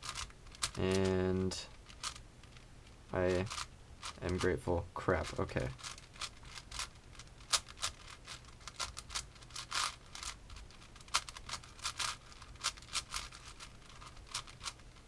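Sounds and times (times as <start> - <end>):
puzzle cube clicking as turned: 0.0 - 1.1, 1.8 - 4.6, 5.2 - 15.0.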